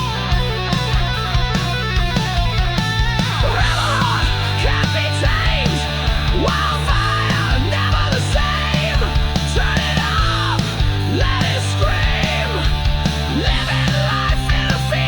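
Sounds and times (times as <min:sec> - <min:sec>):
distorted electric guitar: 0:00.0 - 0:15.0
low bass line: 0:00.0 - 0:15.0.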